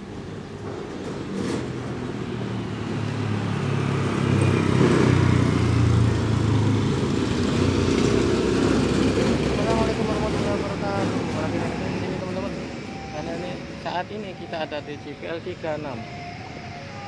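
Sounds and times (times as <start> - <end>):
vehicle engine passing by: 1.1 - 14.8.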